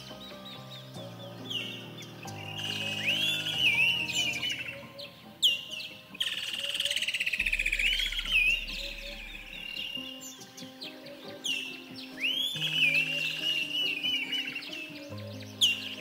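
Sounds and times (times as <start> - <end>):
birds calling: 0.0 - 16.0
soft ambient music: 0.0 - 16.0.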